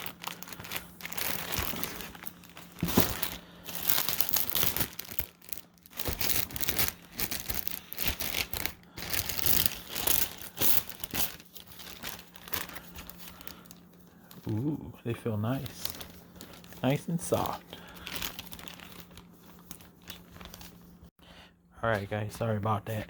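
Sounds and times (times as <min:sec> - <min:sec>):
plastic packaging crinkling: 0:00.0 - 0:14.6, 0:15.2 - 0:21.1.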